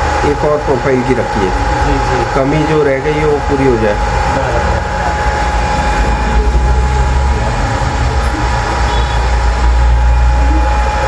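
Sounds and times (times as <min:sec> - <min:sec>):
deep hum: 0:00.0 - 0:11.0
thin steady whine: 0:00.0 - 0:11.0
hot air rushing: 0:01.2 - 0:11.0.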